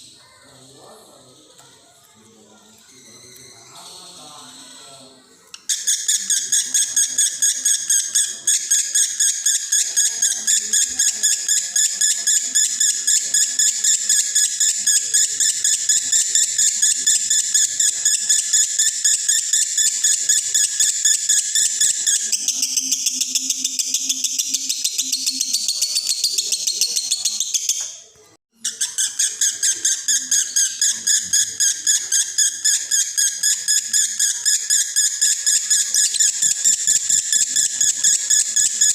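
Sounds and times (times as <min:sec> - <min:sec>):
lovebird chattering: 0:05.6 - 0:28.0, 0:28.6 - 0:38.9.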